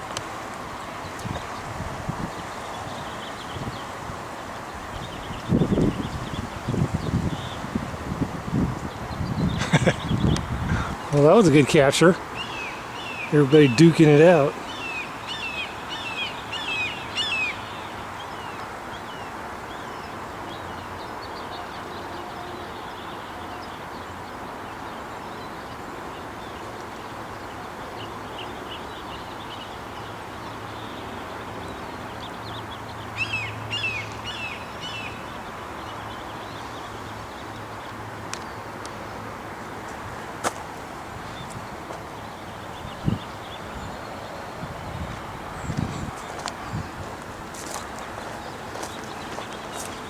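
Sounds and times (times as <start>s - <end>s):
outdoor background hiss: 0.0s - 50.0s.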